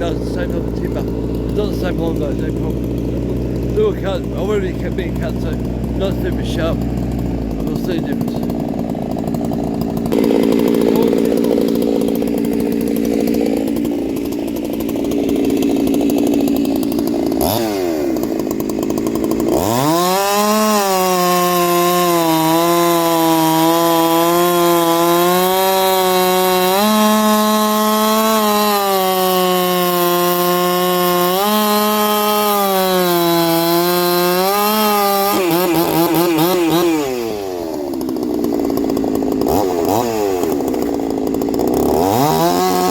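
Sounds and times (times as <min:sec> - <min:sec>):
chainsaw cutting log: 0:00.0 - 0:42.9
chainsaw idling and revving: 0:00.0 - 0:42.9.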